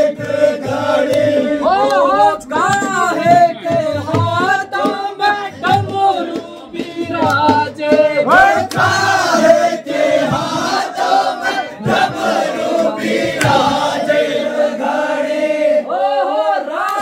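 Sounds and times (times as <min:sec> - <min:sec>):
men singing folk song in chorus: 0:00.0 - 0:17.0
sharp drum strikes: 0:00.1 - 0:14.1.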